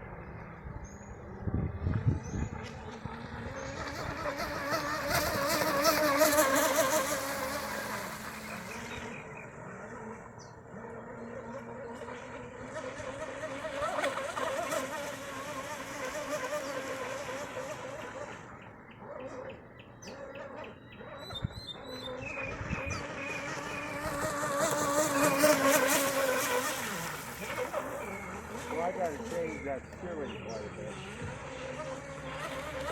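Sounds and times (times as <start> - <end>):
rc boat motor whining: 0.0 - 32.9.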